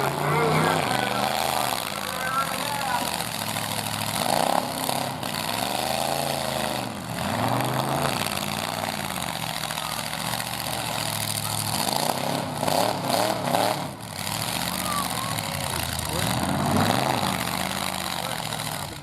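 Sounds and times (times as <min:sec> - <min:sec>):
pickup truck engines revving: 0:00.0 - 0:19.0.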